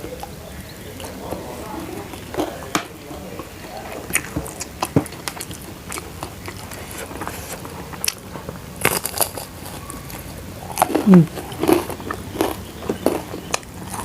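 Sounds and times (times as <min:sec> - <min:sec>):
chewing crunchy food: 0:00.0 - 0:14.0.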